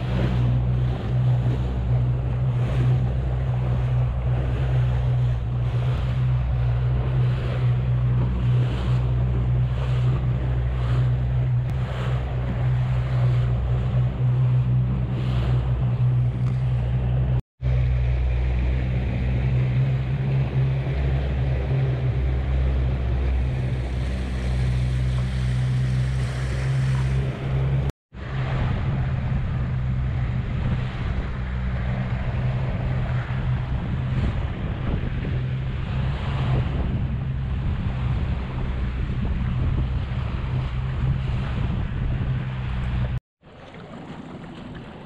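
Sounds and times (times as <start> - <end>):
boat engine drone: 0.0 - 45.0
water rushing past hull: 0.0 - 45.0
wind on microphone: 0.0 - 45.0.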